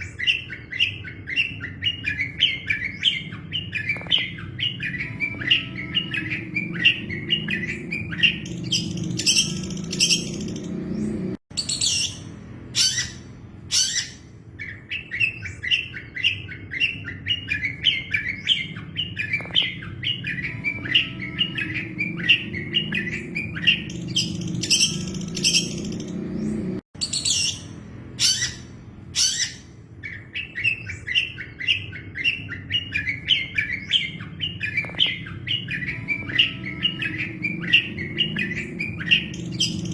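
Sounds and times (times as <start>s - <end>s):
bird chattering chirps: 0.0s - 39.9s
high piercing bird calls: 0.0s - 39.9s.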